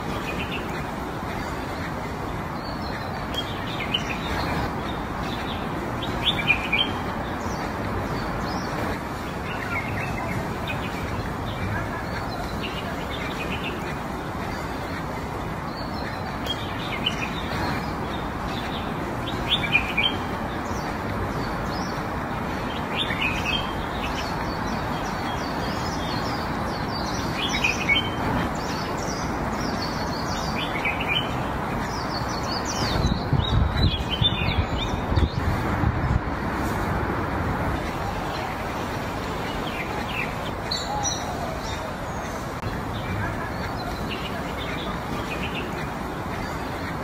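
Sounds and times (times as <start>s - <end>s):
outdoor background hiss: 0.0s - 47.0s
small birds chirping: 0.0s - 47.0s.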